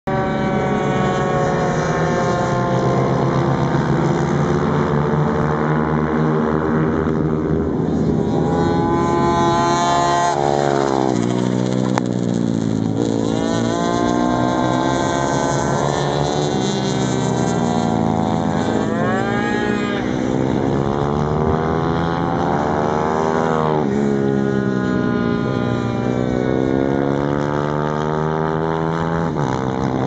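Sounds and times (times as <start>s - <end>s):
mini motorcycle engines revving: 0.1s - 30.0s.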